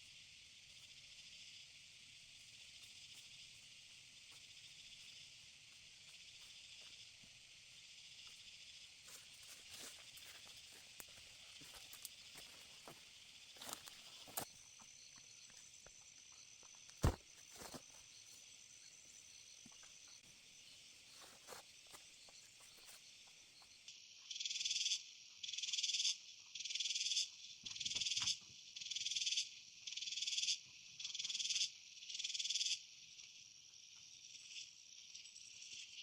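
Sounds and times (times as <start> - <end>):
insect-like hiss: 0.0 - 36.0.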